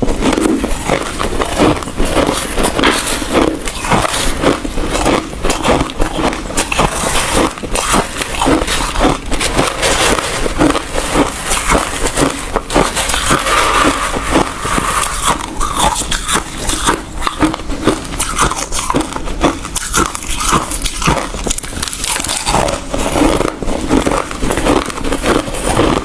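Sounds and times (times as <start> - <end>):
ice being chewed: 0.0 - 26.0.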